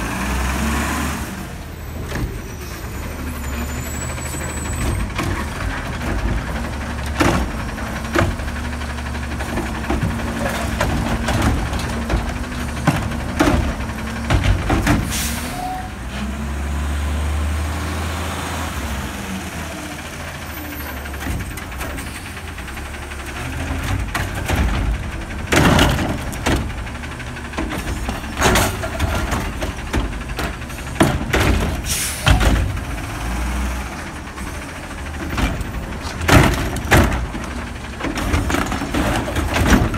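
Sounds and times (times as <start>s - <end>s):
truck engine running: 0.0s - 39.9s
knocks and clatters of carts: 1.5s - 16.4s, 19.6s - 39.9s.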